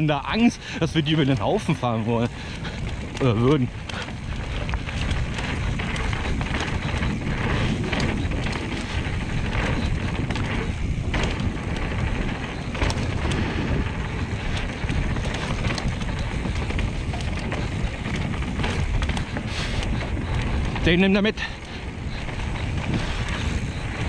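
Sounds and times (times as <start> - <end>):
bike knocks and rattles: 0.0 - 24.0
bike tyre rumble on dirt: 0.0 - 24.0
wind buffeting microphone: 0.0 - 24.0.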